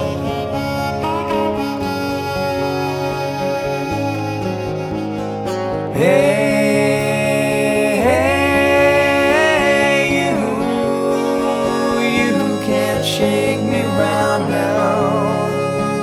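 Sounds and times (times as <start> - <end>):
low held notes: 0.0 - 16.0
slow sliding melody: 0.0 - 16.0.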